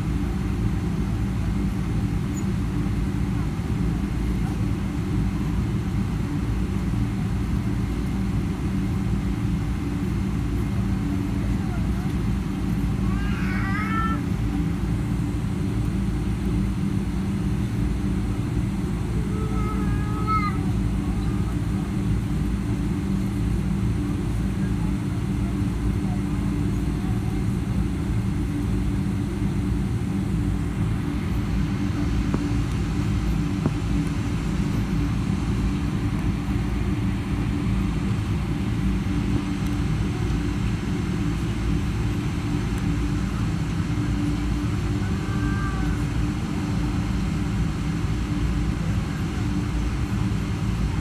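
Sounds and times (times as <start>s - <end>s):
jet engines low rumble: 0.0s - 51.0s.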